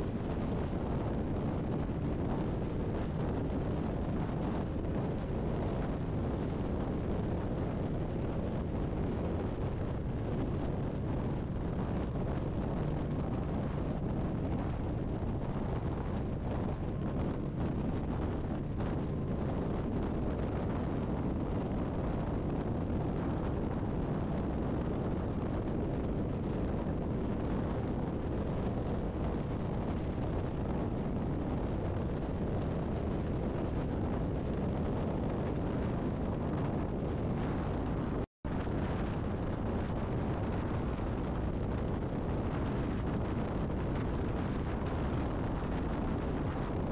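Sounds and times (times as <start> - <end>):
highway road noise: 0.0 - 41.8
wind buffeting microphone: 0.0 - 46.9.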